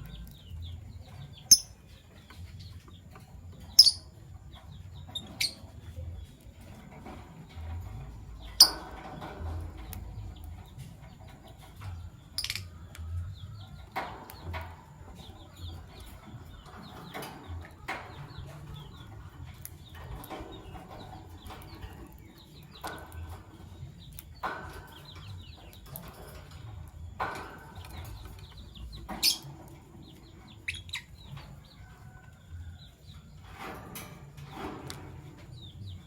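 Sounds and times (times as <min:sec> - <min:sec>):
lovebirds chirping: 0:00.0 - 0:33.6.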